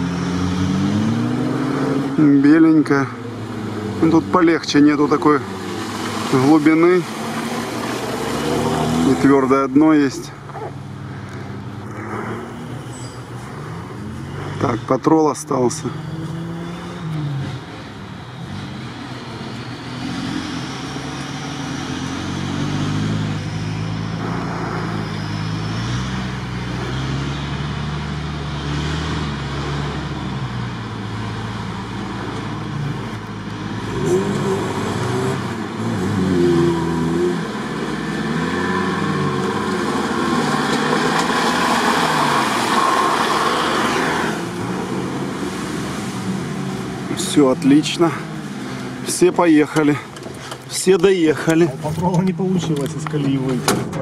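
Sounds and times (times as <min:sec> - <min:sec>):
off-road engine revving: 0:00.0 - 0:54.0
tyres churning through mud: 0:00.0 - 0:54.0.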